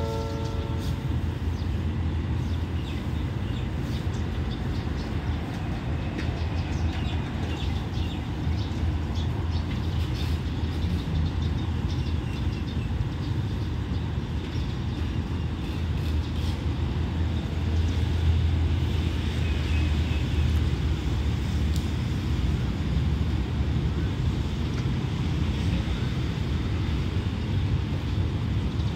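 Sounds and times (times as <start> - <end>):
diesel locomotive rumbling: 0.0 - 28.9.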